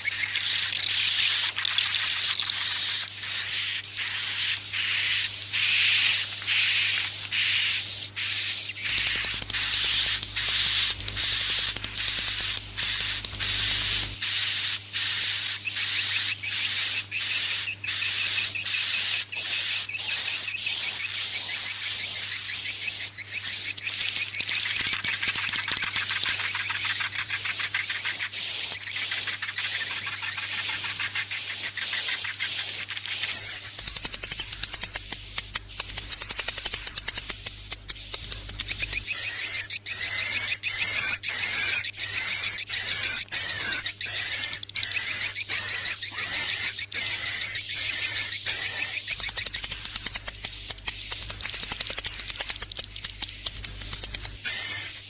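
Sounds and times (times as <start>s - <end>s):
bird chirps and clicks: 0.0s - 55.0s.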